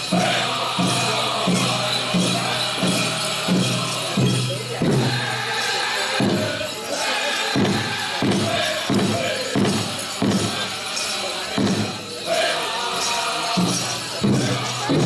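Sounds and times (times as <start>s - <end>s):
big drum steady beat: 0.0s - 15.0s
voices singing in unison: 0.0s - 15.0s.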